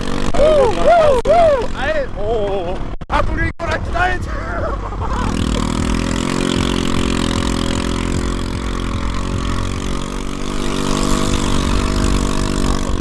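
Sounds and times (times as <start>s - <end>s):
small engine running: 0.0s - 2.6s, 4.8s - 13.0s.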